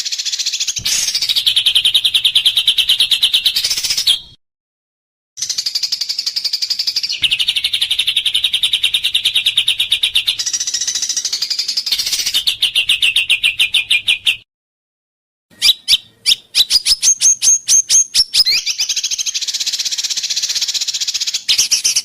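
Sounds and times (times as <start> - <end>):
songbird rapid trill: 0.0 - 4.3, 5.4 - 14.4, 15.5 - 22.0.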